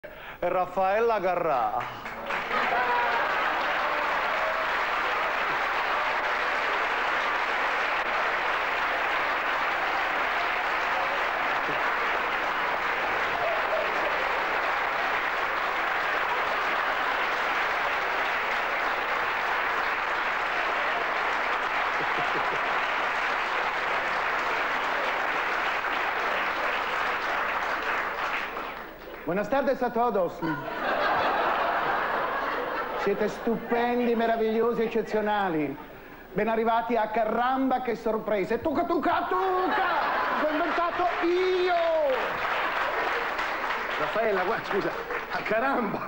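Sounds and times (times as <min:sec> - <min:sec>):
audience applauding: 0:01.8 - 0:29.6, 0:30.7 - 0:34.8, 0:39.4 - 0:46.0.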